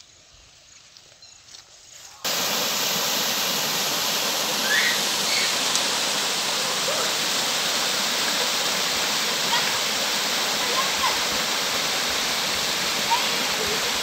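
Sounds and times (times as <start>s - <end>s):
water rushing down rocky stream: 2.2s - 14.0s.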